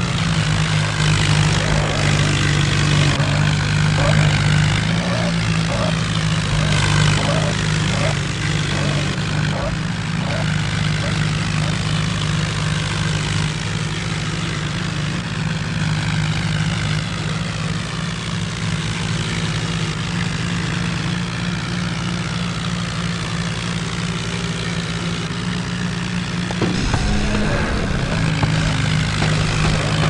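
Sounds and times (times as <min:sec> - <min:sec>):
tractor diesel engine humming: 0:00.0 - 0:30.0.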